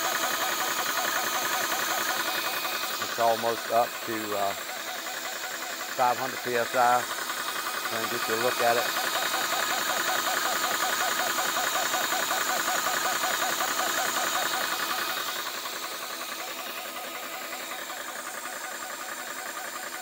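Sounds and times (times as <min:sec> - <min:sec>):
air compressor pulsing: 0:00.0 - 0:20.0.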